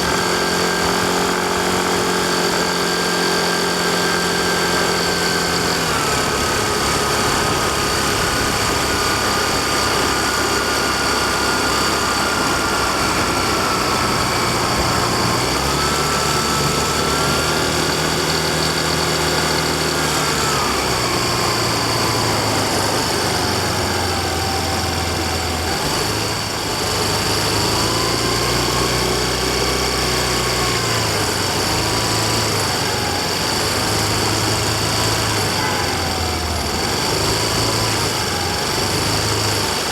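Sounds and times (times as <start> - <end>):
constant high whine: 0.0 - 39.9
scooter engine running: 0.0 - 39.9.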